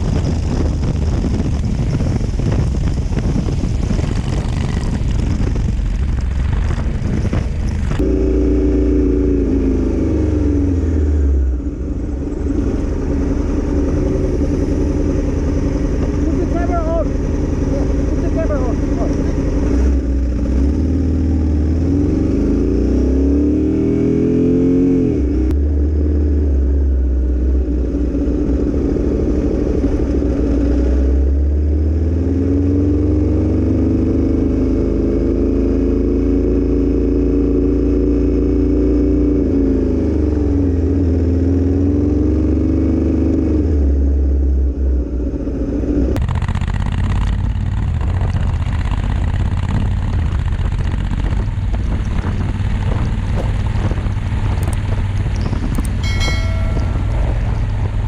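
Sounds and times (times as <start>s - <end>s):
motorcycle engine revving: 0.0s - 58.0s
wind and road rumble: 0.0s - 58.0s.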